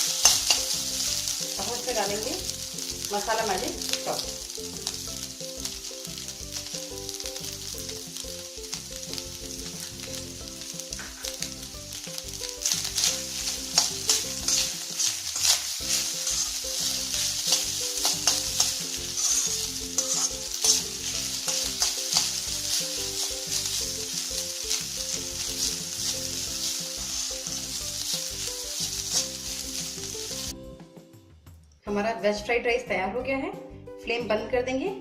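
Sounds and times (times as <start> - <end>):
spatula scraping a pan: 0.0 - 30.5
rice sizzling in a pan: 0.0 - 30.6.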